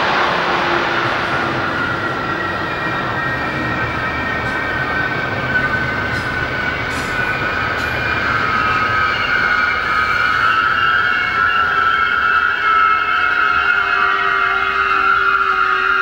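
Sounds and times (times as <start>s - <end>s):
train wheels rumbling on rails: 0.0s - 16.0s
high-pitched wheel squeal: 0.8s - 16.0s.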